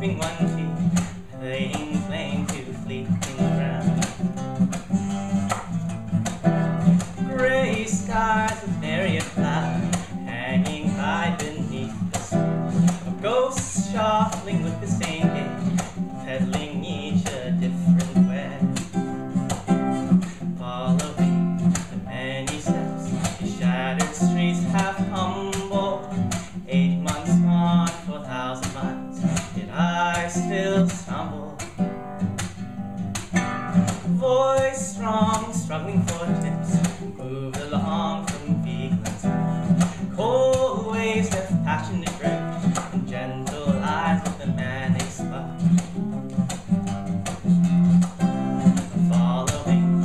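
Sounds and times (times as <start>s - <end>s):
man singing: 0.0s - 4.9s, 6.2s - 32.4s, 33.6s - 47.4s, 48.0s - 50.0s
acoustic guitar strumming: 0.0s - 50.0s.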